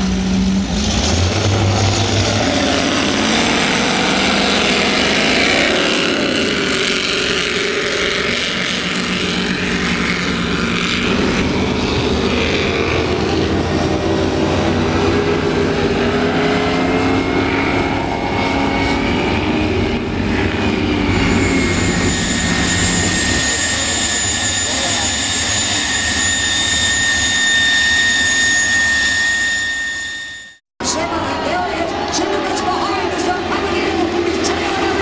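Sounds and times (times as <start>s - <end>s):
powerboats accelerating past: 0.0s - 29.5s, 30.8s - 35.0s.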